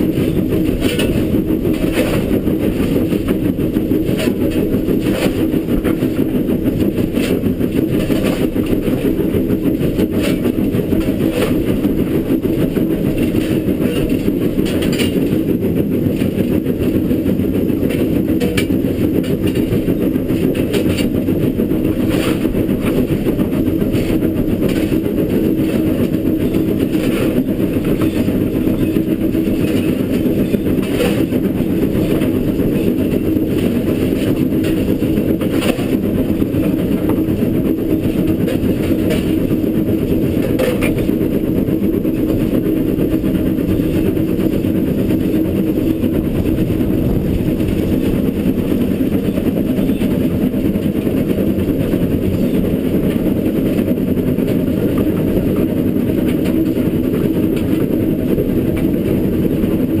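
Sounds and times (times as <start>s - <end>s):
steam locomotive low rumble: 0.0s - 60.0s.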